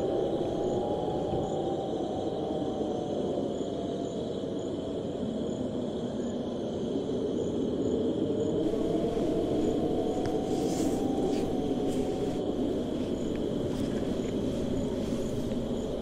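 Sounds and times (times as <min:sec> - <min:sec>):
wind blowing: 0:00.0 - 0:05.4, 0:06.8 - 0:16.0
crickets trilling: 0:00.0 - 0:16.0.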